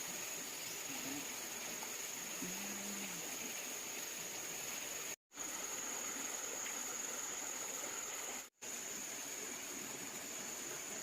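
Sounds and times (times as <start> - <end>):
ambient hiss: 0.0 - 11.0
crickets trilling: 0.0 - 11.0.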